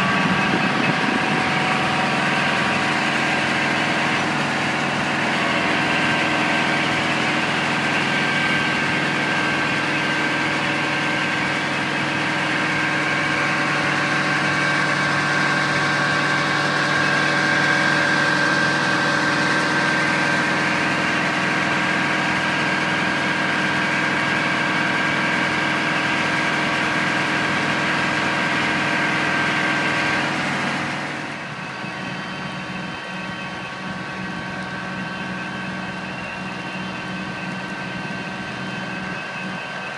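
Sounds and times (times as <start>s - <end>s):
diesel engine idling: 0.0s - 39.9s
high whine: 0.0s - 39.9s.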